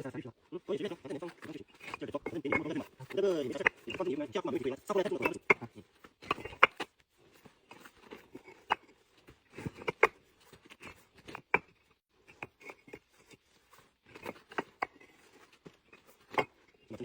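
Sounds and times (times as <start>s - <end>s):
bricks scraping: 0.6s - 17.0s
brick clacking on brick: 1.0s - 6.9s, 7.7s - 13.4s, 14.0s - 16.8s.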